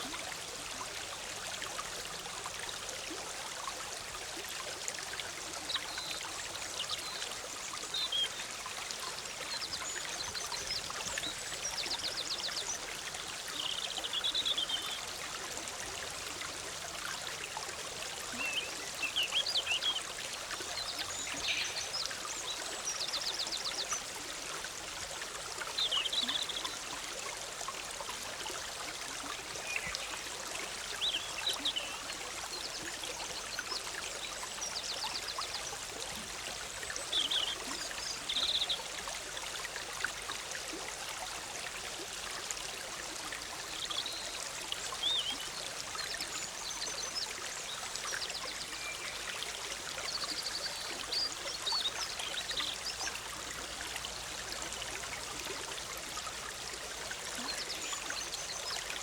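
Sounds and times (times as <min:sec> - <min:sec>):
stream bubbling: 0:00.0 - 0:59.0.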